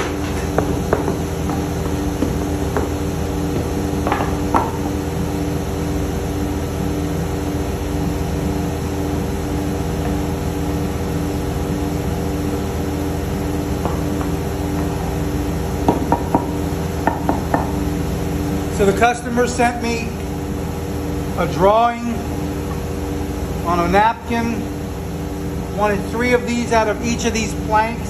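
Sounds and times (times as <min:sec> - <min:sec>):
shop machinery humming: 0:00.0 - 0:28.0.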